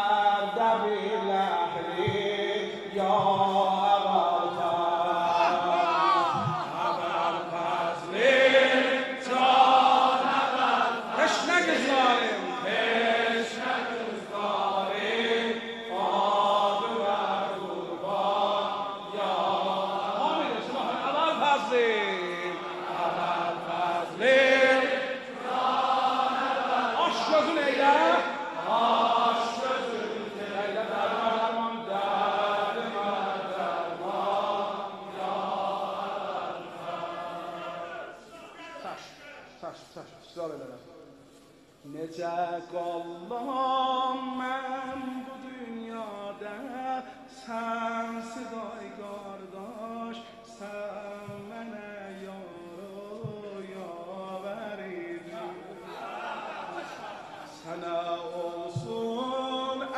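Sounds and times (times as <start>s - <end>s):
man chanting through microphone: 0.0s - 59.9s.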